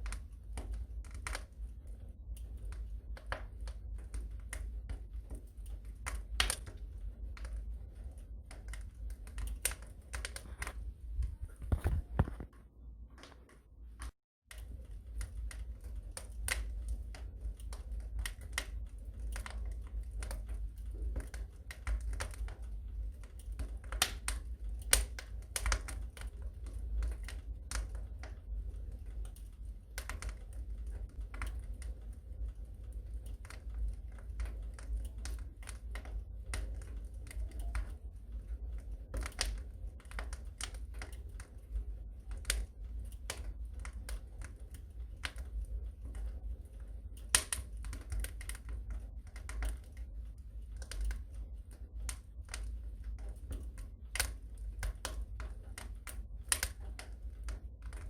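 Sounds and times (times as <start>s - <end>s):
low steady rumble: 0.0s - 58.0s
wood fire crackling: 0.0s - 58.0s.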